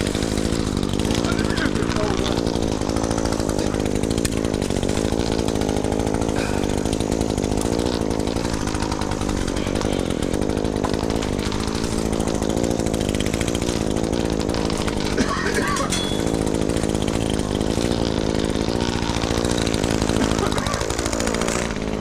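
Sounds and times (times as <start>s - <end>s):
chainsaw engine running: 0.0s - 22.0s.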